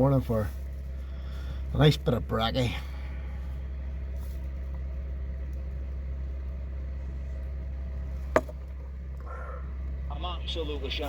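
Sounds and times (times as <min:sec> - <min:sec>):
heater low rumble: 0:00.0 - 0:11.0.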